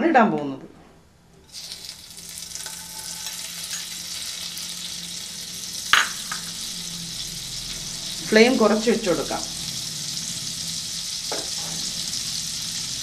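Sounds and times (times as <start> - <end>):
butter sizzling in a frying pan: 1.4 - 13.0.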